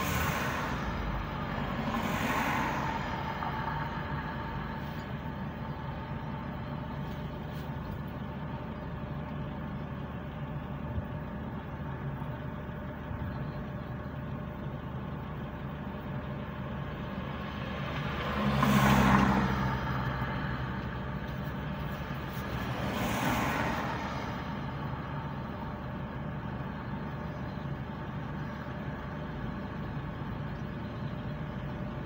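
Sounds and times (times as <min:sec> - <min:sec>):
car engine idling: 0:00.0 - 0:32.0
vehicle approaching: 0:00.0 - 0:32.0.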